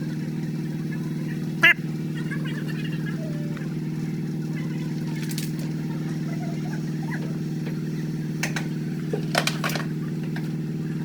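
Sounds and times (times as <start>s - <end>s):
diesel engine running steadily: 0.0s - 11.0s.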